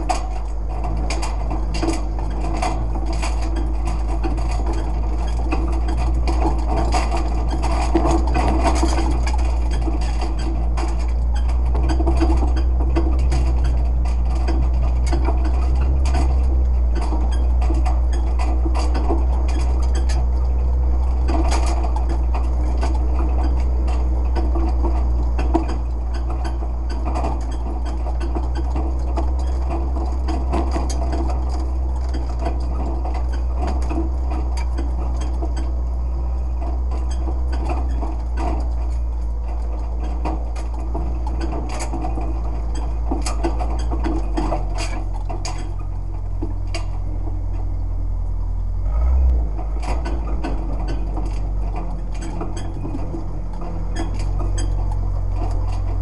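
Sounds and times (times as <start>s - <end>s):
loose metal rattling and clanking: 0.0s - 56.0s
vehicle engine running low: 0.0s - 56.0s.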